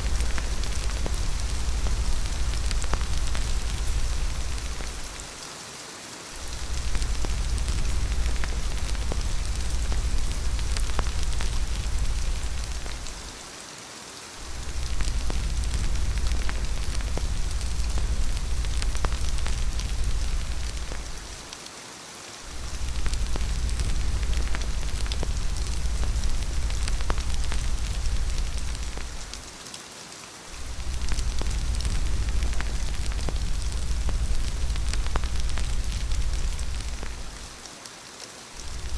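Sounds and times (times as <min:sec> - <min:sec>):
deep low rumble: 0:00.0 - 0:05.3, 0:06.4 - 0:13.4, 0:14.4 - 0:21.4, 0:22.5 - 0:29.5, 0:30.6 - 0:37.6, 0:38.6 - 0:38.9
crackles and drips: 0:00.0 - 0:38.9
steady rain: 0:00.0 - 0:38.9.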